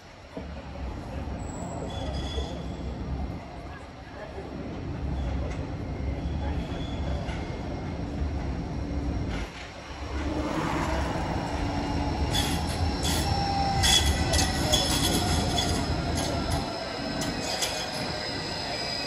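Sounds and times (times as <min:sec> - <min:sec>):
tram wheels rumbling on track: 0:00.0 - 0:19.0.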